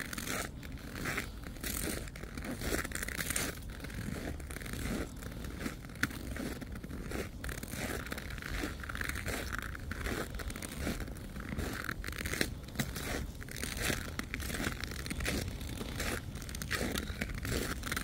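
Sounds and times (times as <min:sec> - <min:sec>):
footsteps crunching in snow: 0:00.0 - 0:18.0.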